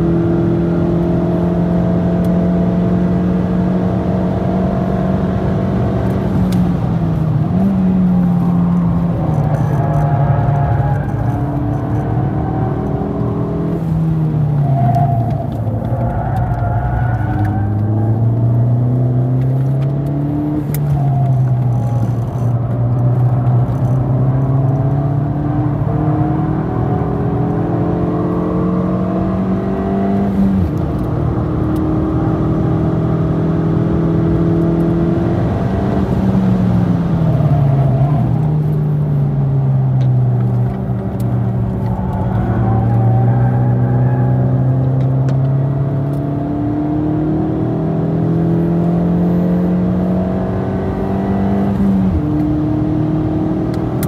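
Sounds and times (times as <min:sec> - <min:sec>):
car engine revving in cabin: 0:00.0 - 0:54.0.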